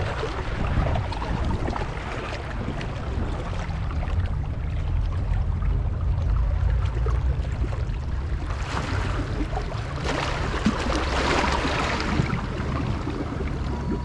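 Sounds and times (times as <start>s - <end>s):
rushing water: 0.0s - 14.0s
wind rumble on microphone: 0.0s - 14.0s.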